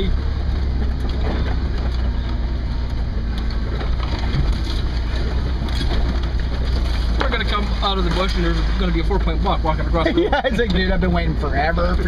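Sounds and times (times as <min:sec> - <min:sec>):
branches scraping vehicle: 0:00.0 - 0:12.0
low engine rumble: 0:00.0 - 0:12.0
tyres crunching over dirt: 0:00.0 - 0:12.0.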